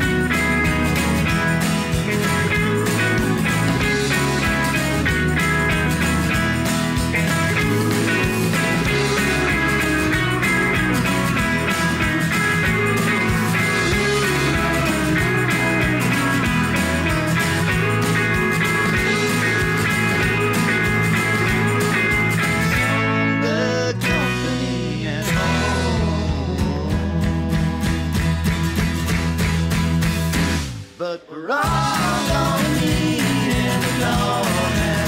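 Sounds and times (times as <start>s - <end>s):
folk-rock guitars and beat: 0.0s - 35.0s.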